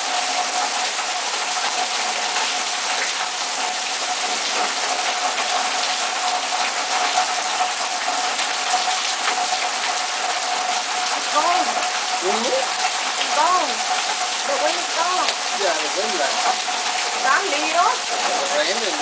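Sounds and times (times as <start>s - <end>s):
heavy rain on foliage: 0.0s - 19.0s.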